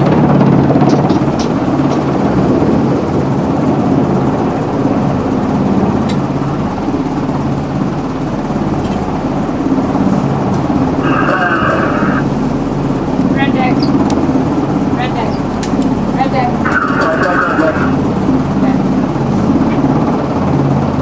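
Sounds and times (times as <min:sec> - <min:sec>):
helicopter turbine and rotor drone: 0:00.0 - 0:21.0.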